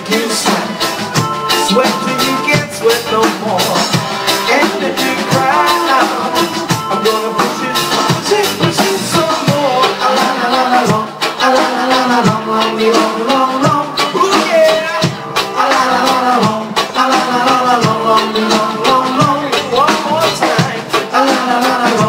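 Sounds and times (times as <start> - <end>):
live band music: 0.0 - 22.0
person singing: 0.0 - 22.0.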